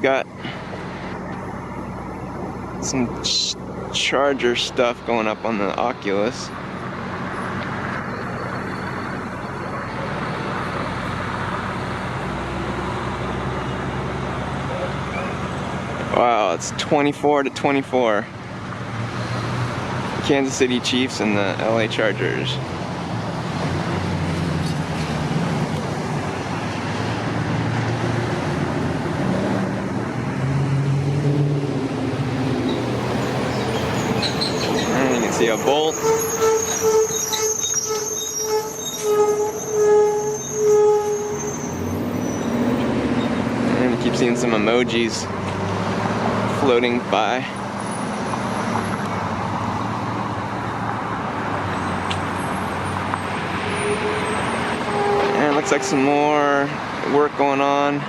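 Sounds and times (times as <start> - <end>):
hum of passing cars: 0.0 - 58.0
road traffic noise: 0.0 - 58.0
vehicle engine drone: 0.0 - 58.0.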